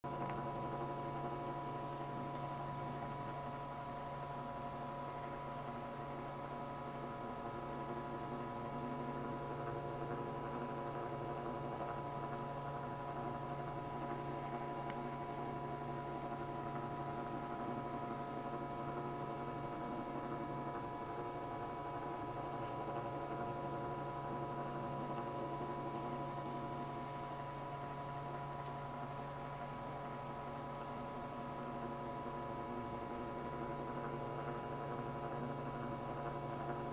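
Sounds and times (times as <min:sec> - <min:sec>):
electrical hum: 0:00.0 - 0:36.9.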